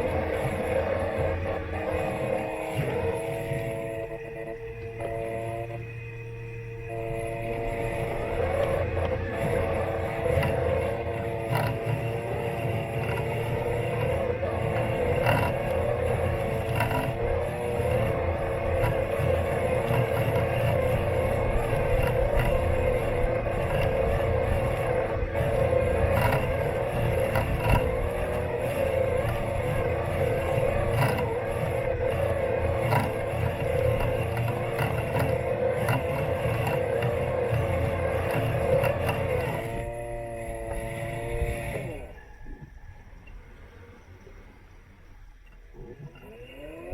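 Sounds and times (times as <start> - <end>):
lawn mower electric motor whine: 0.0 - 44.2, 45.1 - 46.9
rough rumble: 0.0 - 44.6.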